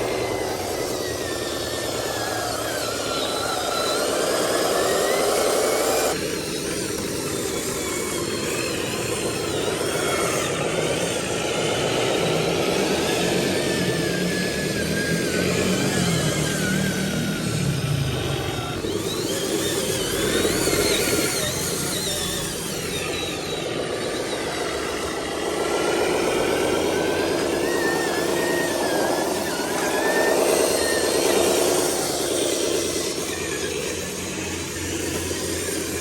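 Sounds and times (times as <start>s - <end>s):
diesel truck engine revving: 0.0s - 36.0s.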